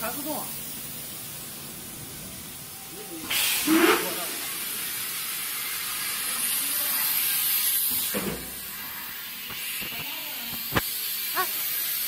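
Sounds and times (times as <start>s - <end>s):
compressed air hiss: 0.2s - 12.0s.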